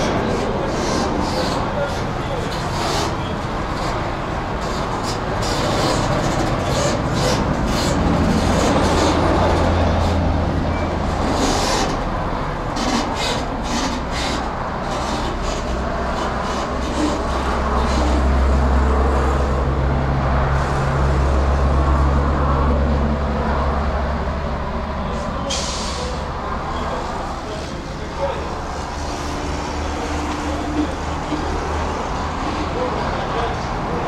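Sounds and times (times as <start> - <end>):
diesel truck engine droning: 0.0 - 34.0.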